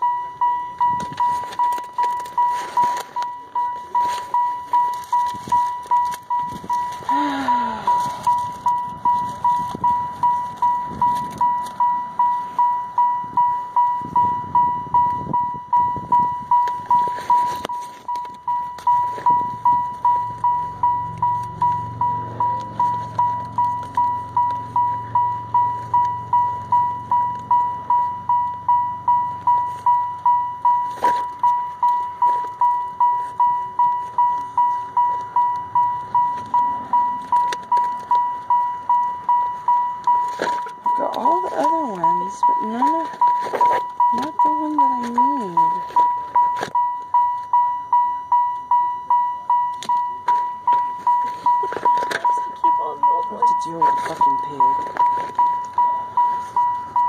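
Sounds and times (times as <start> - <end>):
car warning chime: 0.0 - 57.0.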